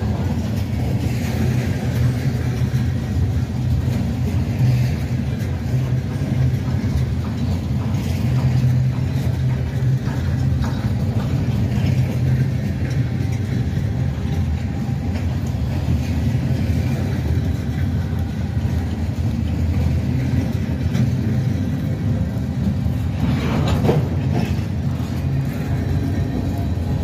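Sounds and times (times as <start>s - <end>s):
train rumbling by: 0.0s - 27.0s.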